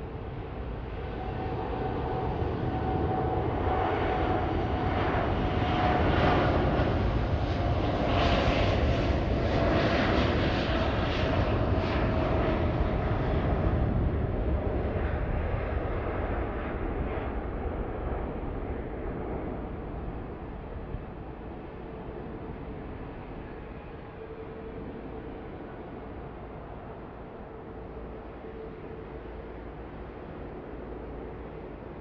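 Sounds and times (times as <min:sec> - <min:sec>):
faint engine whine: 0:00.0 - 0:32.0
jet engines on takeoff roll: 0:00.0 - 0:32.0.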